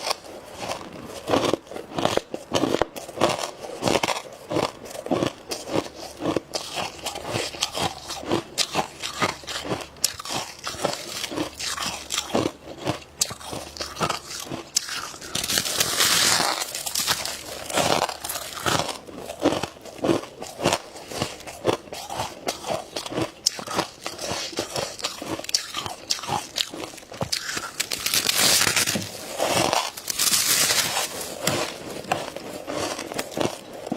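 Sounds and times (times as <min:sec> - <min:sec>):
frost being chewed: 0:00.0 - 0:33.9.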